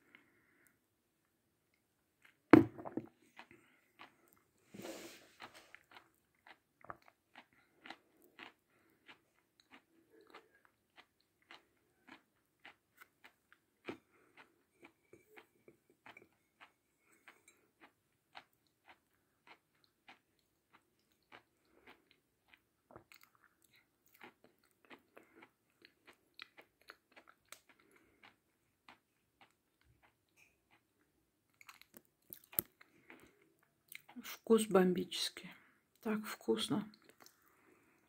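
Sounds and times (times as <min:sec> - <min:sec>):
chewing crisp crunches: 0:03.1 - 0:34.3.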